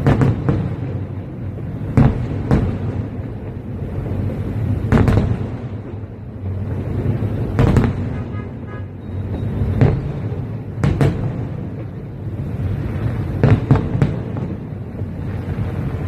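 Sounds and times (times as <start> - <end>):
fireworks banging: 0.0 - 16.0
steady low rumble: 0.0 - 16.0.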